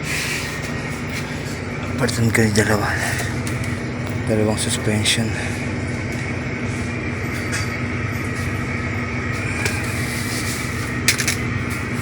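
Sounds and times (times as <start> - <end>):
washing machine hum: 0.0 - 12.0.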